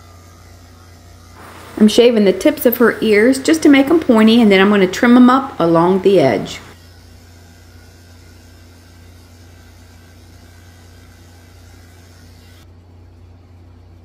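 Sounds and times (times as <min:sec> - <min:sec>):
electric clippers buzzing: 0:00.0 - 0:12.7.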